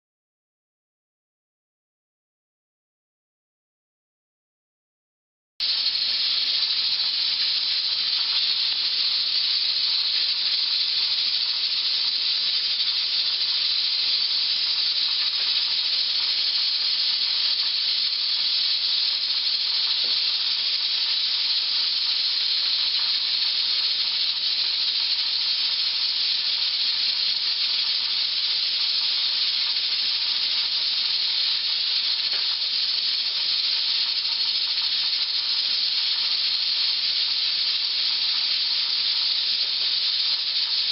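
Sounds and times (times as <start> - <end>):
pressure canner hissing steam: 5.6 - 40.9.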